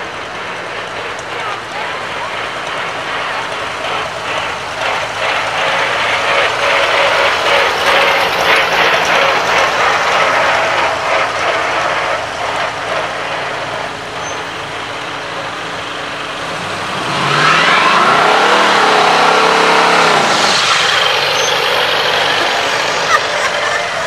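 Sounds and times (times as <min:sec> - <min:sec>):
pickup truck engine revving: 0:00.0 - 0:24.0
tractor engine driving past: 0:00.0 - 0:24.0
tyres spinning: 0:00.0 - 0:24.0.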